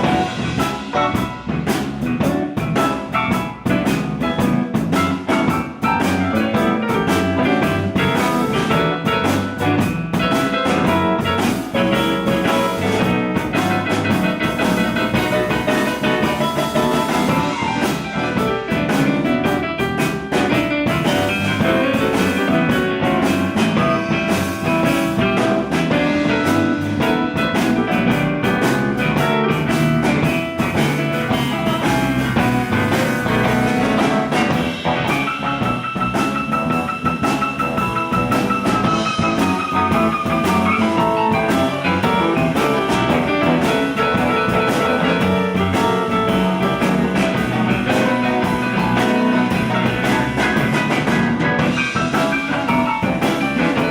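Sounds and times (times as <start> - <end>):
drum kit beat: 0.0 - 53.9
electric guitar: 0.0 - 53.9.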